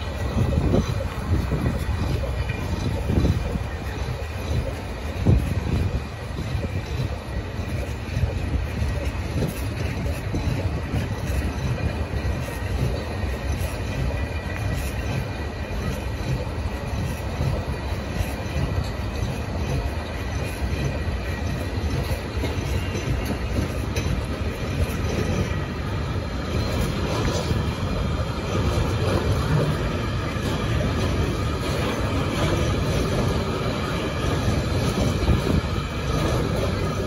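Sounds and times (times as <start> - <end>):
wheels clattering over rail joints: 0.0 - 37.0
wheels rumbling on rail: 0.0 - 37.0.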